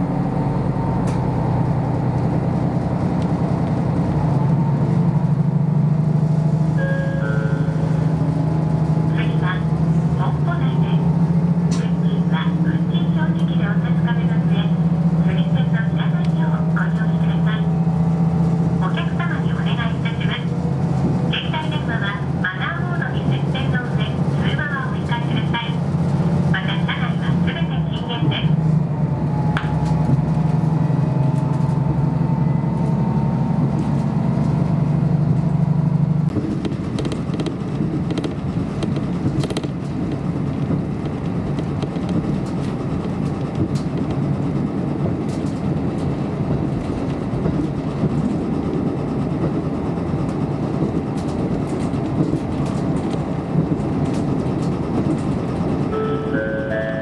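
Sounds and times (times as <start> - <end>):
diesel engine drone: 0.0 - 57.0
wheels rumbling on rails: 0.0 - 57.0.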